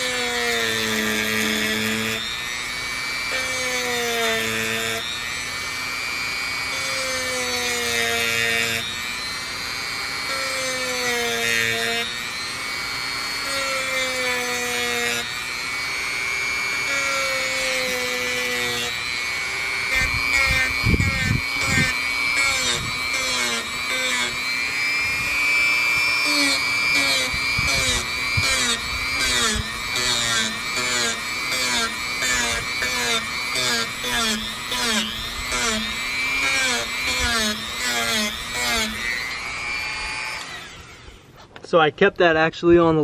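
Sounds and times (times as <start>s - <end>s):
rotary tool motor whine: 0.0s - 41.5s.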